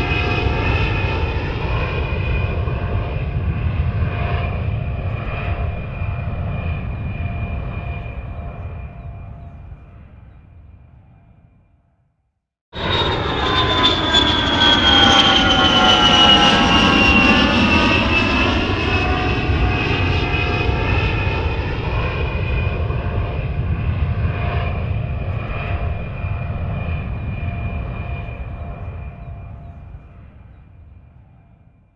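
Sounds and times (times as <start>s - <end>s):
jet aircraft passing: 0.0s - 11.7s, 12.8s - 31.9s.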